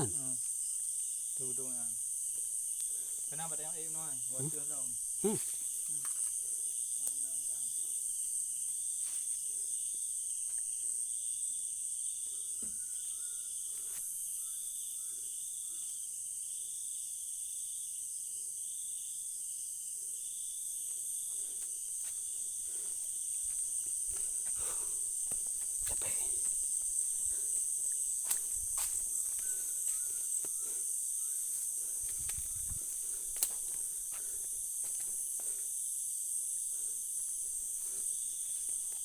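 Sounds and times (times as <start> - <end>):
insect pulsing chirp: 0.0 - 39.0
insects high-pitched drone: 0.0 - 39.0.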